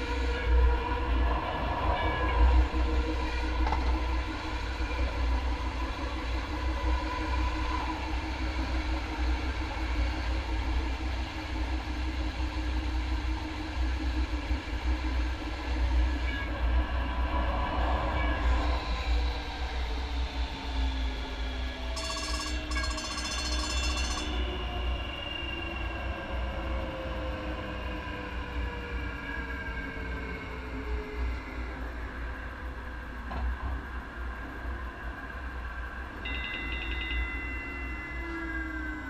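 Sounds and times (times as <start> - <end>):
light rail train rumbling: 0.0 - 39.0.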